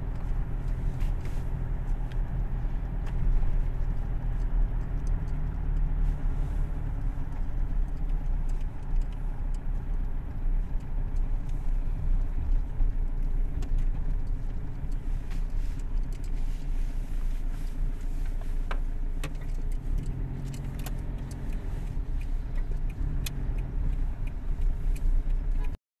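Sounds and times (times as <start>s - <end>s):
car engine and road rumble: 0.0s - 25.8s
light rattling clicks: 0.1s - 16.8s, 17.5s - 25.8s.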